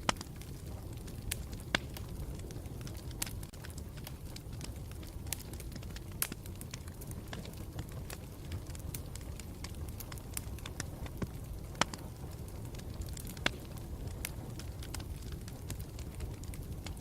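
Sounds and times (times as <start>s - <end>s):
campfire crackling: 0.0s - 17.0s
fire pops: 0.0s - 17.0s.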